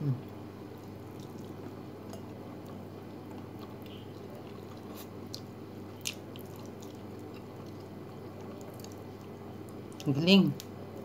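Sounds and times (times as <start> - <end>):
person chewing fried chicken: 0.7 - 10.1.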